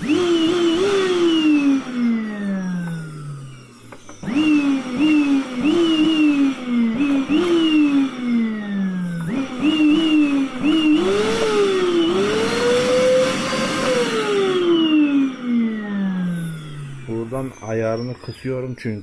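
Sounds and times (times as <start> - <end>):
vacuum cleaner motor revving: 0.0 - 18.0.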